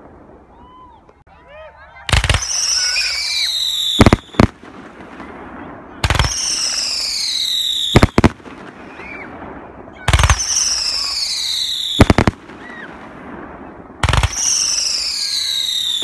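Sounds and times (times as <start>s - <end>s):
firework bursts: 2.1s - 16.0s.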